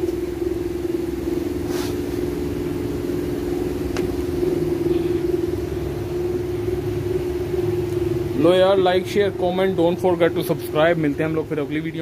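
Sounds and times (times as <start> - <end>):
motor hum: 0.0 - 12.0
low rumble: 2.2 - 12.0.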